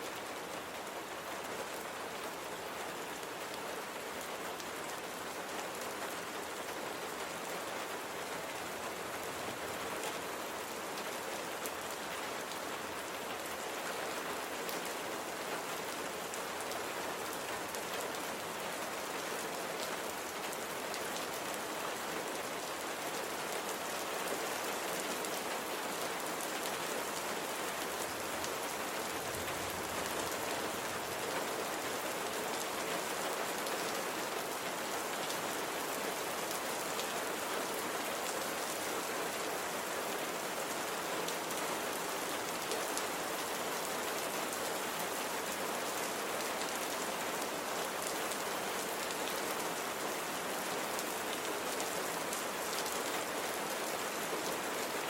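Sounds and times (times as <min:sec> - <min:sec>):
rain pattering on a surface: 0:00.0 - 0:55.0.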